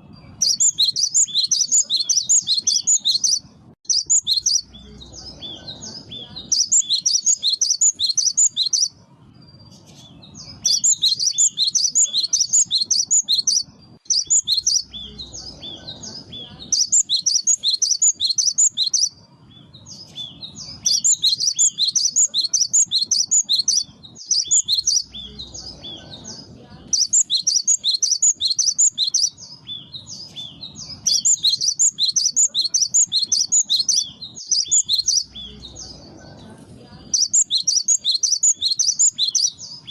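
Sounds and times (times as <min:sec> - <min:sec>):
bird singing high chattering notes: 0:00.0 - 0:39.9.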